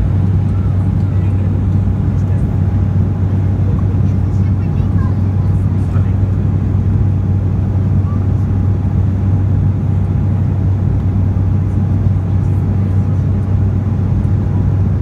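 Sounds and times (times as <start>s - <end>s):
jet cabin low drone: 0.0s - 15.0s.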